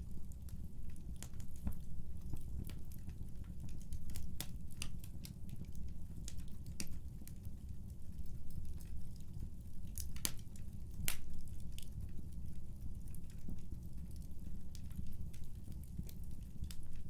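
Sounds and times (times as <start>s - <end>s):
wood fire rumbling: 0.0s - 17.0s
fire popping and crackling: 0.1s - 17.0s.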